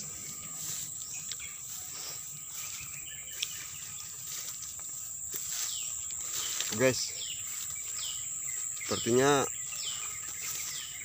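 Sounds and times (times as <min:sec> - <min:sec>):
bird chirps: 0:00.0 - 0:11.0
insects droning: 0:00.0 - 0:11.0.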